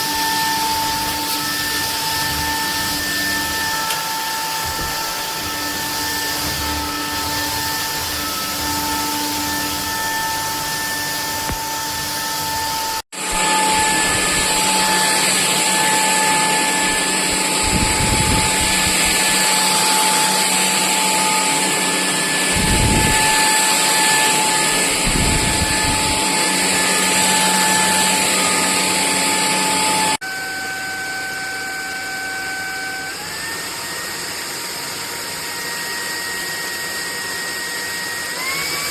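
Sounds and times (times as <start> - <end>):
vacuum motor whining: 0.0 - 38.9.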